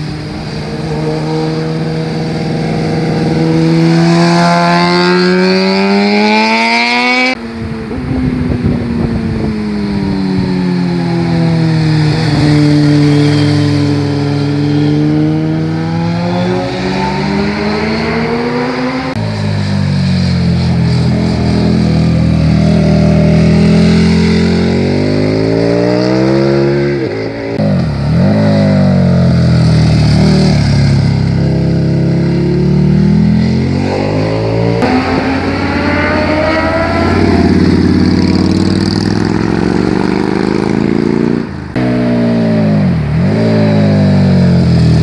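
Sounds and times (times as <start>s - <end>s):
motorcycle engines revving hard: 0.0s - 45.0s.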